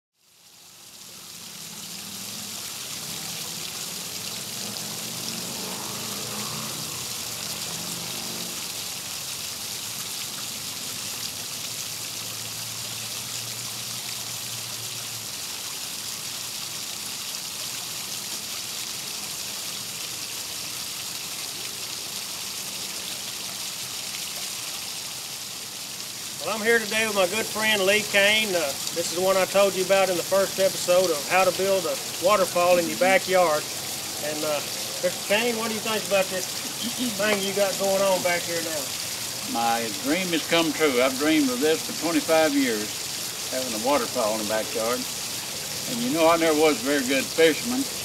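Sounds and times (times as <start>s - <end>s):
waterfall splashing into pond: 0.2s - 48.0s.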